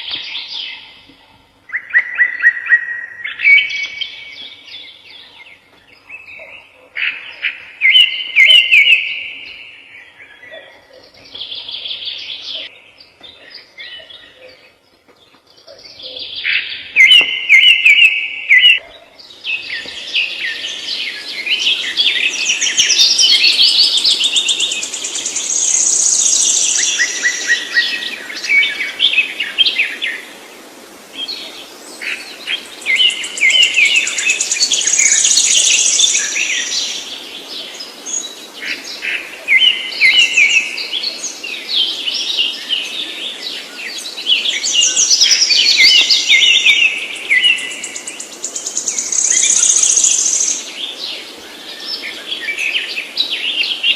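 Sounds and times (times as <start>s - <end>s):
small birds chirping: 0.0s - 30.4s, 31.0s - 53.9s.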